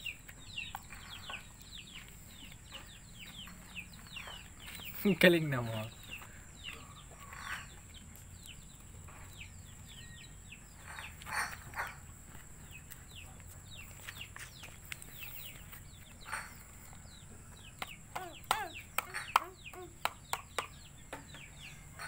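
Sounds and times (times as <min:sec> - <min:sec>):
faint chicken peeps: 0:00.0 - 0:22.0.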